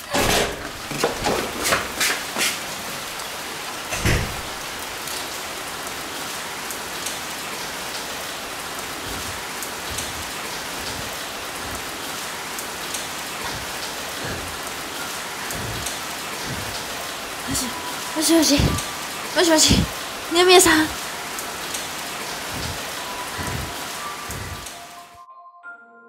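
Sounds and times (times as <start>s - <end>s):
steady rain: 0.0s - 25.2s.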